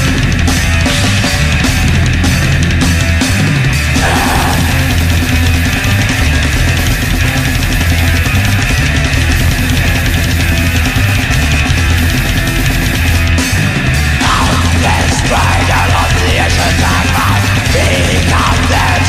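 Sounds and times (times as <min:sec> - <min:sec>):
heavy metal band playing: 0:00.0 - 0:19.0.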